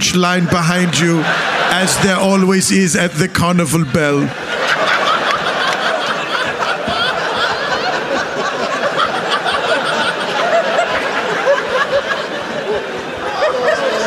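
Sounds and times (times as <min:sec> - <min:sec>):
large audience laughing: 0:00.0 - 0:14.0.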